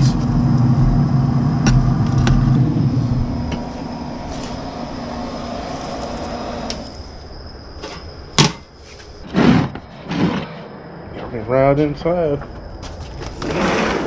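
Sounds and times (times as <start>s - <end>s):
thin high whine: 0.0s - 12.4s
steady mechanical hum: 0.0s - 14.0s.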